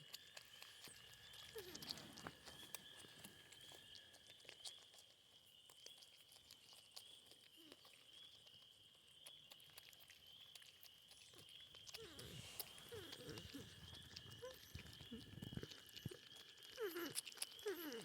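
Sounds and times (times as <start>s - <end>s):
porcupines eating crunches: 0.0s - 18.0s.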